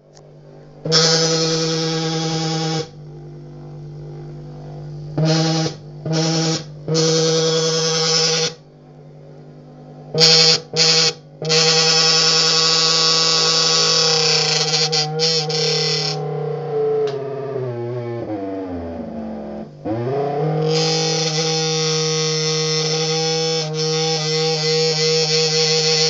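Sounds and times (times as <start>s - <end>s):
dinner plate buzzing drone: 0.0s - 26.0s.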